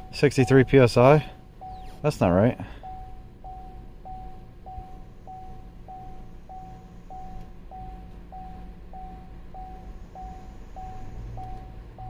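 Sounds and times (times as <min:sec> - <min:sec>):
car warning chime beeping: 0:00.0 - 0:12.0.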